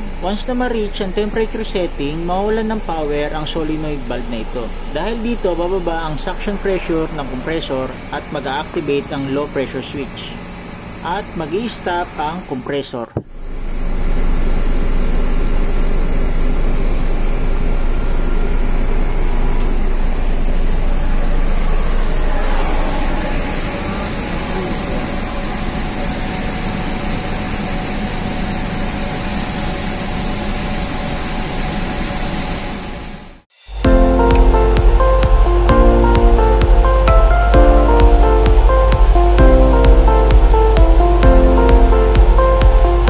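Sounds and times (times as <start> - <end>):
machinery humming and hissing: 0.0 - 43.0.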